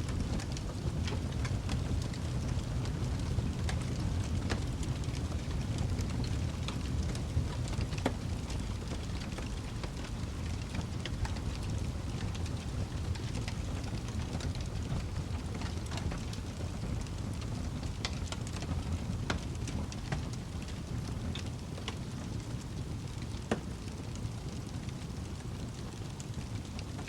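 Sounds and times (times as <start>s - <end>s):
fire crackling: 0.0s - 27.0s
fire pops and snaps: 0.0s - 27.0s
low rumble of flames: 0.0s - 27.0s.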